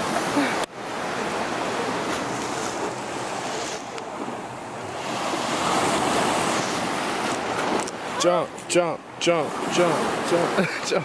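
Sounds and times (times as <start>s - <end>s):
sea surf washing over steps: 0.0s - 11.0s.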